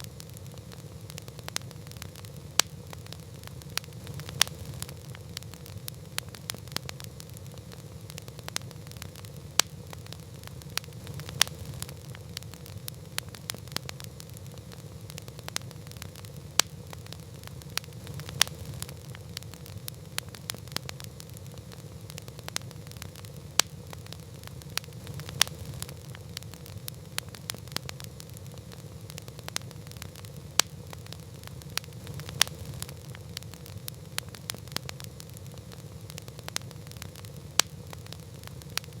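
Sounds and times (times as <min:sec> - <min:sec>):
low rumble of flames: 0:00.0 - 0:39.0
wood crackling and popping: 0:00.0 - 0:39.0.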